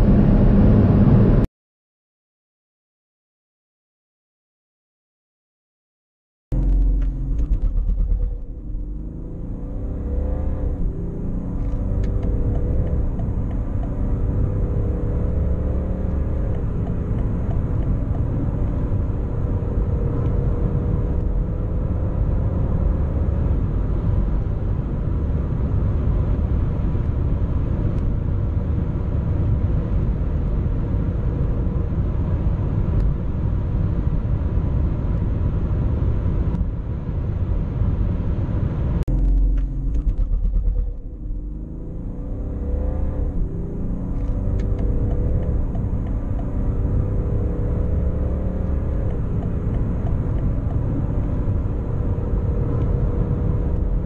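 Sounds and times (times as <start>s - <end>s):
car engine accelerating: 0.0s - 1.5s, 6.5s - 34.2s, 37.4s - 54.0s
road and wind noise: 0.0s - 1.5s, 6.5s - 54.0s.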